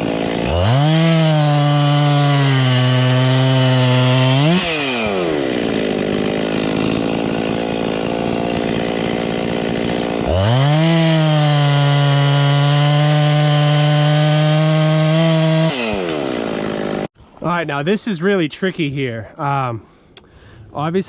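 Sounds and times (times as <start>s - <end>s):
chainsaw cutting through a log: 0.0s - 17.1s.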